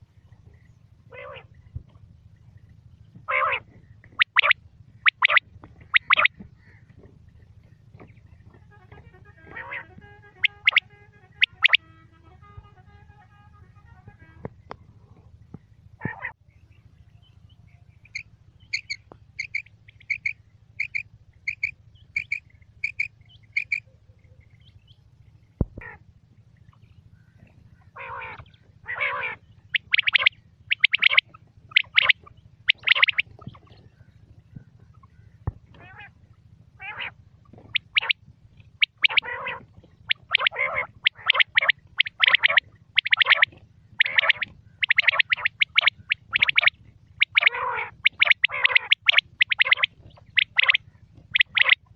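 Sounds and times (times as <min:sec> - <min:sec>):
harsh quail calls: 0:00.5 - 0:02.0, 0:03.1 - 0:12.8, 0:15.9 - 0:16.4, 0:18.0 - 0:24.8, 0:25.7 - 0:26.1, 0:26.7 - 0:51.9
quail calling: 0:00.6 - 0:01.6, 0:03.2 - 0:14.5, 0:16.0 - 0:16.4, 0:18.0 - 0:24.5, 0:25.7 - 0:26.1, 0:27.2 - 0:51.9.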